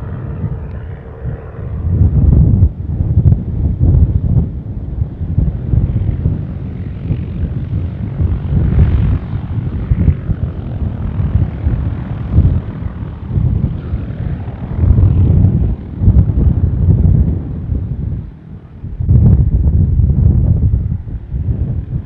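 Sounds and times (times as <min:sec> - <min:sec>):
small aircraft engine rumble: 0:00.0 - 0:22.0.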